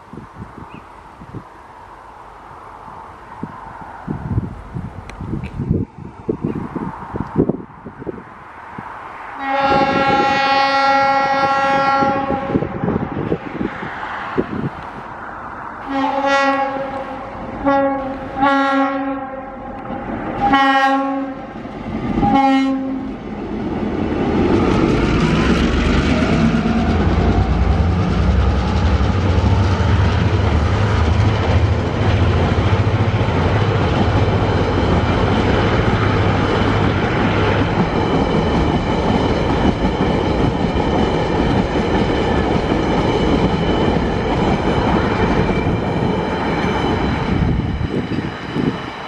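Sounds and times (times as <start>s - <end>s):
diesel locomotive engine drone: 0.0s - 49.0s.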